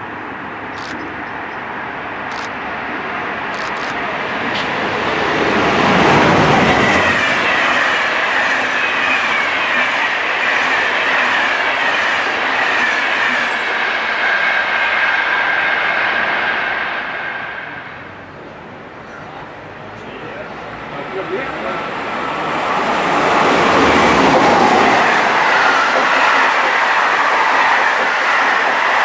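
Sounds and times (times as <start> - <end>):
train rushing past: 0.0 - 29.0.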